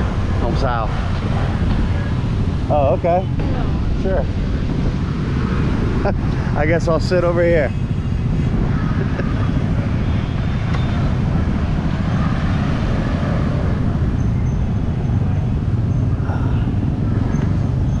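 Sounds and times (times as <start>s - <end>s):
street traffic noise: 0.0s - 18.0s
wind buffeting microphone: 0.0s - 18.0s.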